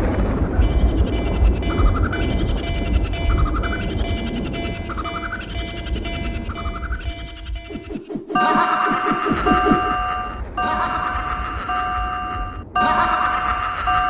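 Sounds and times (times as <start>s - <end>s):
electronic two-note chime: 0.6s - 13.3s.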